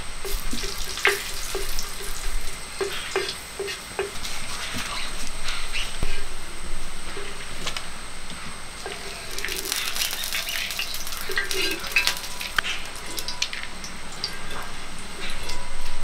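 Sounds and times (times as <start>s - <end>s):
light sizzle of hot fat: 0.0s - 16.0s.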